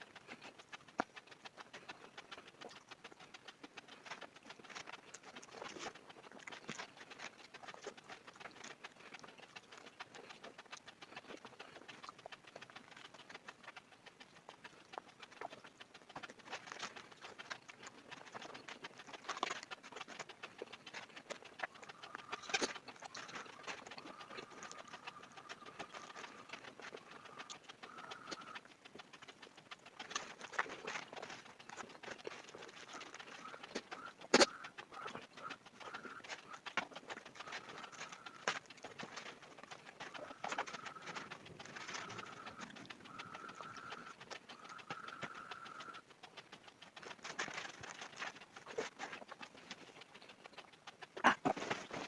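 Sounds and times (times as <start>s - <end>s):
chewing with wet mouth clicks: 0.0s - 52.0s.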